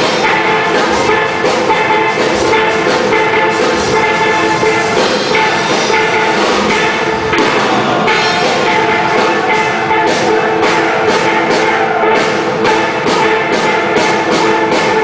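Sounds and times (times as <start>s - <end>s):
steel band playing: 0.0s - 15.0s.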